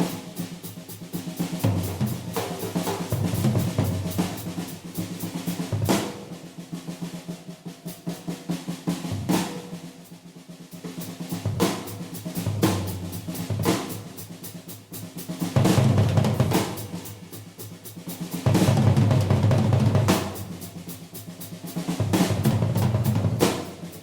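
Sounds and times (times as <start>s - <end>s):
drum kit solo: 0.0s - 24.0s.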